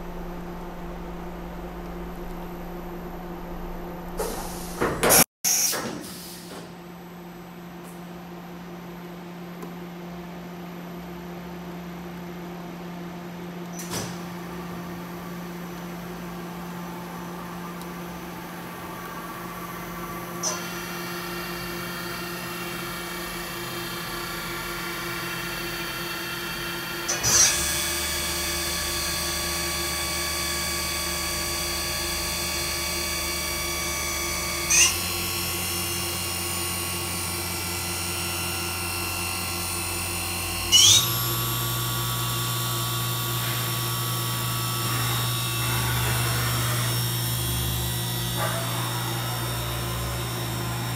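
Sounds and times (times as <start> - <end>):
machine spindle whining: 0.0 - 5.2, 13.8 - 50.9.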